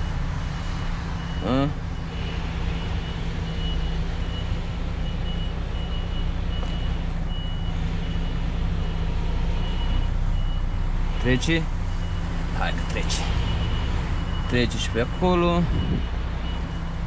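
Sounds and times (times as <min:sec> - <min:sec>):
diesel engine humming: 0:00.0 - 0:17.0
truck reversing alarm beeps: 0:00.0 - 0:17.0.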